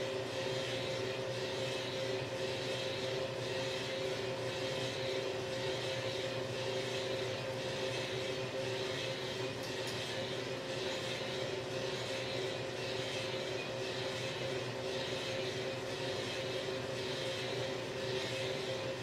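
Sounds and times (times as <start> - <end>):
coffee roaster motor hum: 0.0 - 19.0.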